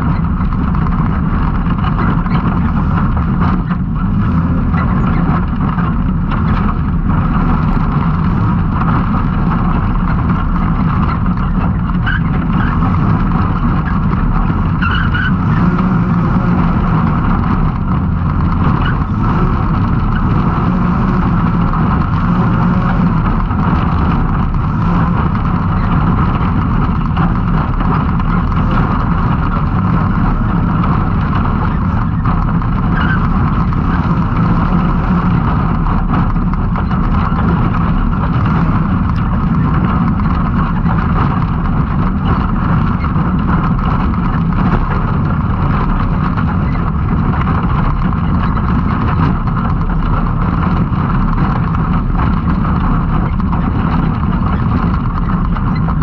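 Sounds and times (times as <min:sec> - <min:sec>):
engine running hard: 0:00.0 - 0:56.0.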